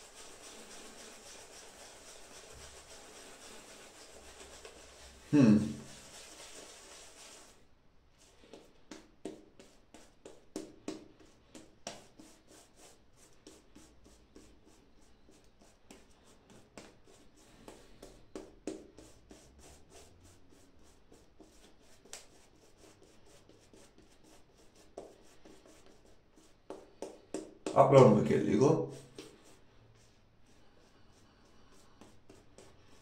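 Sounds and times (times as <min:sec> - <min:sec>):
shaving brush strokes: 0:00.0 - 0:07.6, 0:08.2 - 0:33.0.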